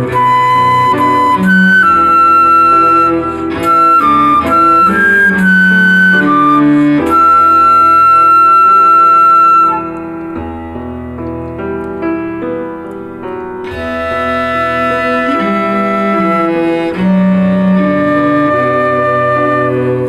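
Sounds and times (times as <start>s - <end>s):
flute high note: 0.0s - 10.2s, 13.7s - 20.0s
piano and cello playing: 0.0s - 20.0s.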